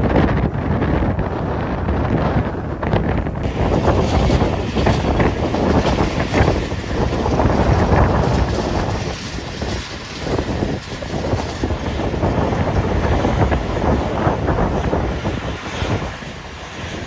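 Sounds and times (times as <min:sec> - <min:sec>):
aircraft engine rumble: 0:00.0 - 0:17.0
wind buffeting microphone: 0:00.0 - 0:17.0.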